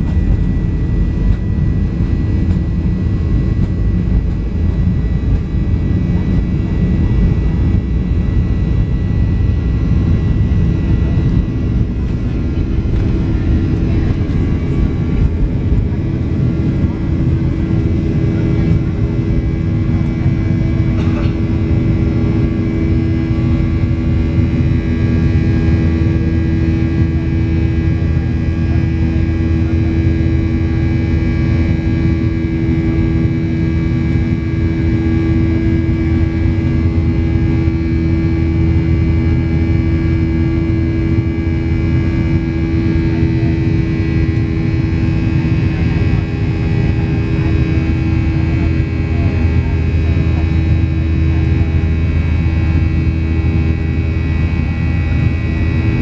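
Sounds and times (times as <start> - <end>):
high engine whine: 0.0 - 56.0
jet engine drone in cabin: 0.0 - 56.0.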